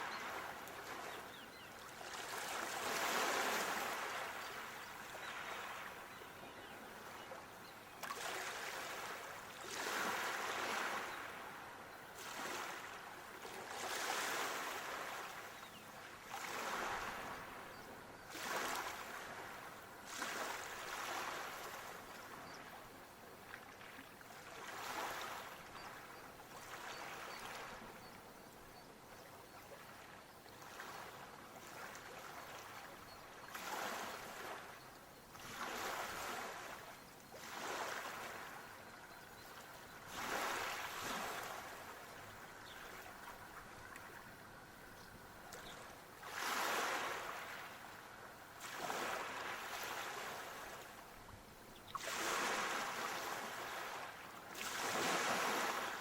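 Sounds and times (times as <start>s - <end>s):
small waves washing in: 0.0s - 7.4s, 8.0s - 28.0s, 29.6s - 56.0s.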